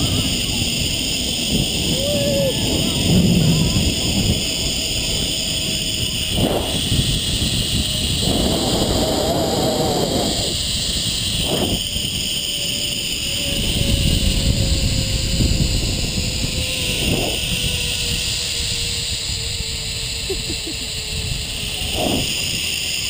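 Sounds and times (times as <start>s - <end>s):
wind rumble on microphone: 0.0s - 23.0s
zipline pulleys whining on cable: 0.0s - 23.0s.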